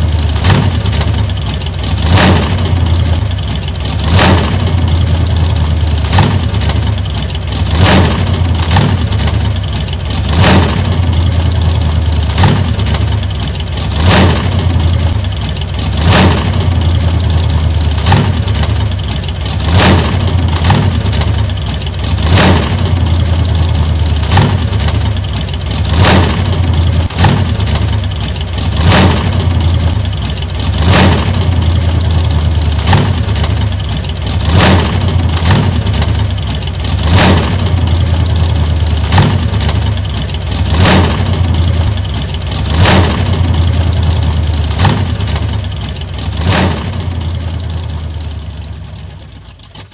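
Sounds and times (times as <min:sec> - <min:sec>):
old car engine running: 0:00.0 - 0:49.9.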